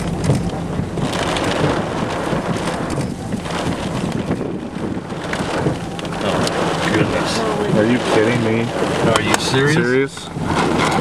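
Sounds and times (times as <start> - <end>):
rain falling: 0.0 - 11.0
sharp raindrop ticks: 0.0 - 11.0
wind gusting over microphone: 0.0 - 11.0.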